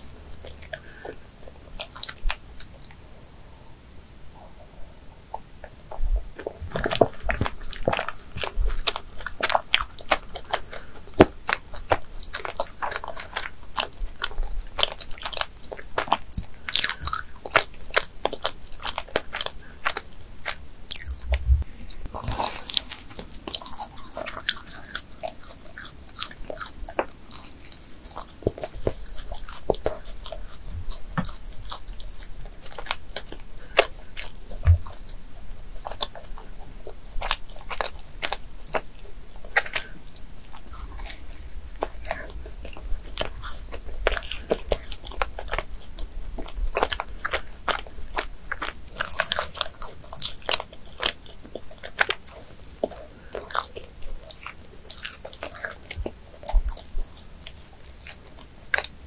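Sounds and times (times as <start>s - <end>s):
chewing and biting: 0.0s - 3.0s, 5.4s - 59.0s
mouth clicks and smacks: 5.3s - 59.0s.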